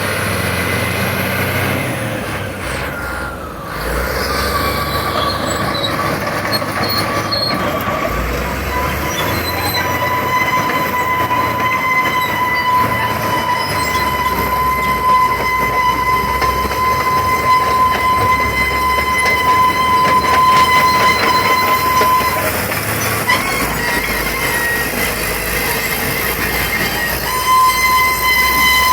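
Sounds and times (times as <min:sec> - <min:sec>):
diesel engine rumble: 0:00.0 - 0:28.9
metal tracks squealing: 0:00.4 - 0:28.9.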